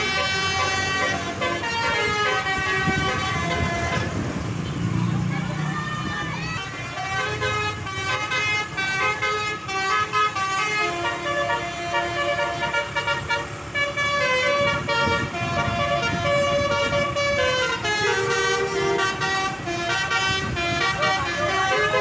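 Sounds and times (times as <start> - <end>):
bus horn playing melody: 0.0 - 4.5, 6.5 - 22.0.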